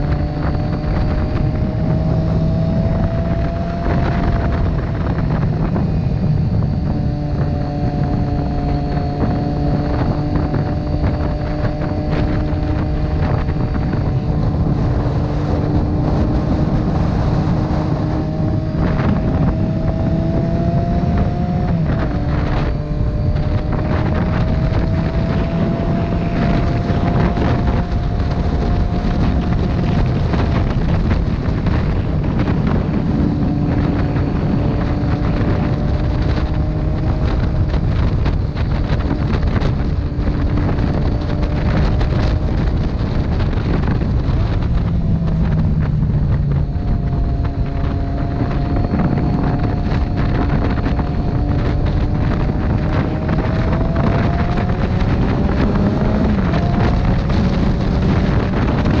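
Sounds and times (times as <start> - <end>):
motorcycle engine drone: 0.0 - 59.0
wind buffeting microphone: 0.0 - 59.0.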